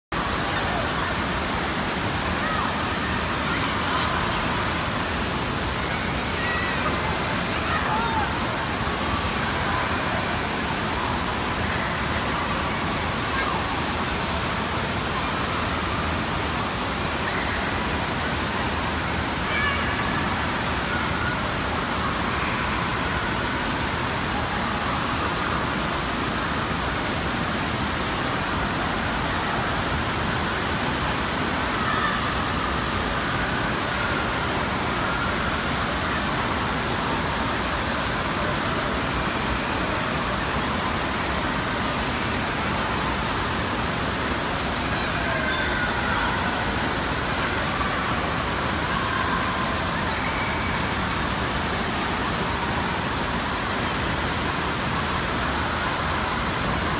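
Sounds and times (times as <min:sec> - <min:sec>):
water rushing indoors: 0:00.1 - 0:56.9.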